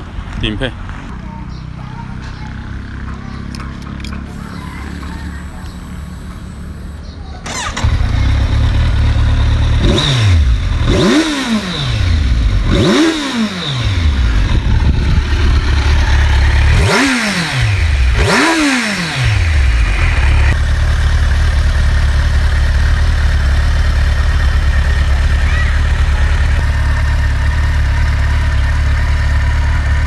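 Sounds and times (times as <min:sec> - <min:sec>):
motorcycle engine revving and idling: 0:00.9 - 0:30.0.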